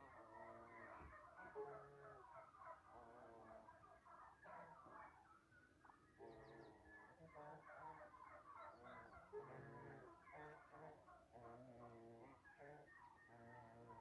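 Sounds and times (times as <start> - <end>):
faint overlapping fowl calls: 0.0 - 14.0.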